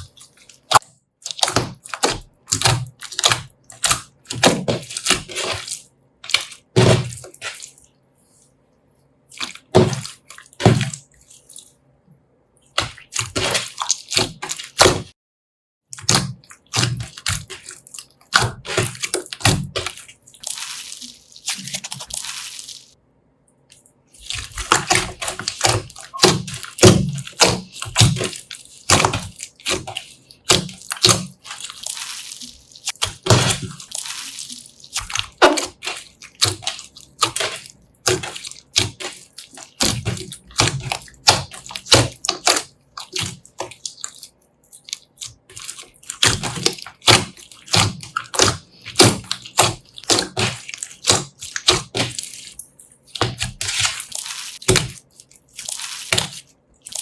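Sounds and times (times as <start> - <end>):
slime squelching and popping: 0.0 - 7.9, 9.3 - 11.7, 12.7 - 15.2, 15.9 - 23.0, 23.6 - 57.0.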